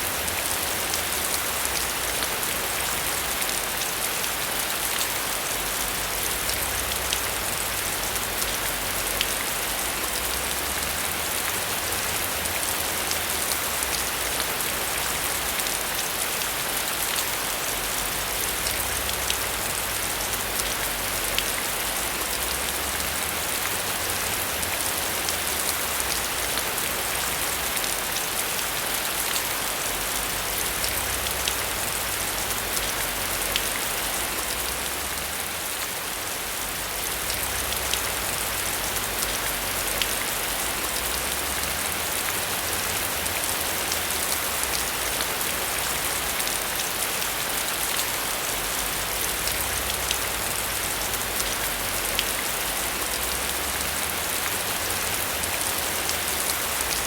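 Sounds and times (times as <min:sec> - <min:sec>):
heavy rain hiss: 0:00.0 - 0:57.0.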